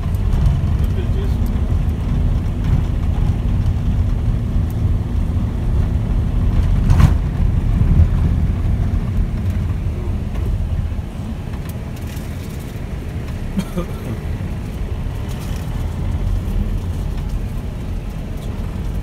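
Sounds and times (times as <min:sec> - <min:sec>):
vehicle road and engine rumble: 0:00.0 - 0:19.0.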